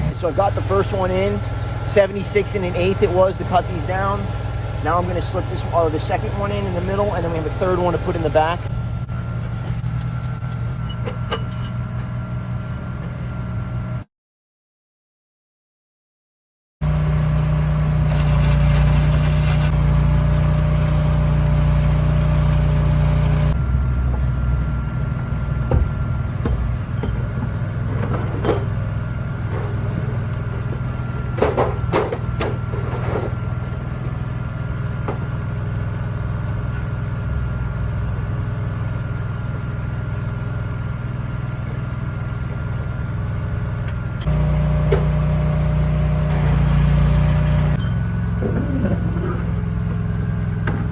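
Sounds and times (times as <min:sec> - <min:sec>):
engine running steadily: 0:00.0 - 0:14.0, 0:16.8 - 0:50.9.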